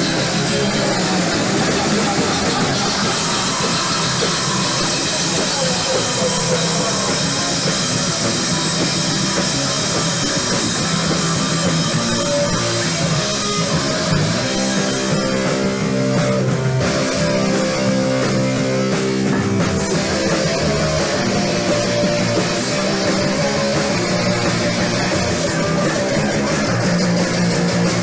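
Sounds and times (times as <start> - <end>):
distorted electric guitar: 0.0 - 28.0
drum kit: 0.0 - 28.0.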